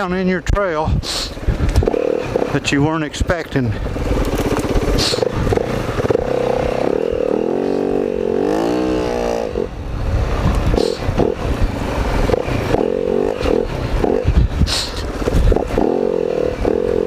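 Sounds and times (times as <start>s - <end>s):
dirt bike engine revving: 1.3s - 17.0s.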